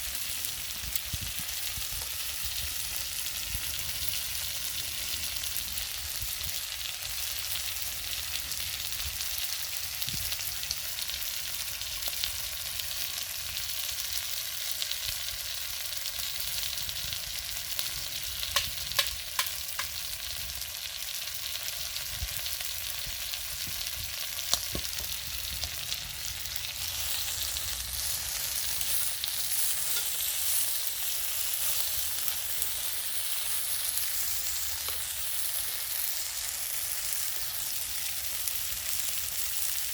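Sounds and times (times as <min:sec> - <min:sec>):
food sizzling on a grill: 0:00.0 - 0:39.9.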